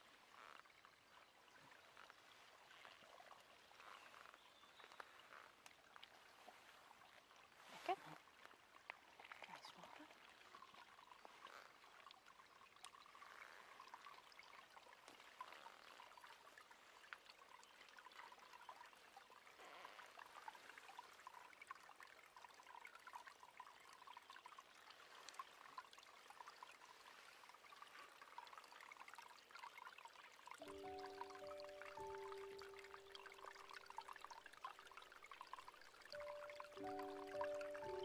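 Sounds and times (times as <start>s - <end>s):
brook babbling over stones: 0.0s - 38.0s.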